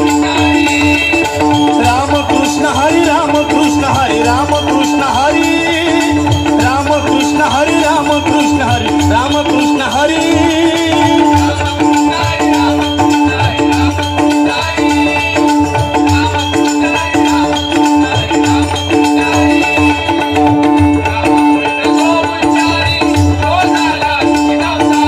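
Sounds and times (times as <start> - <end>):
jingling hand percussion: 0.0 - 25.0
steady drum beat: 0.0 - 25.0.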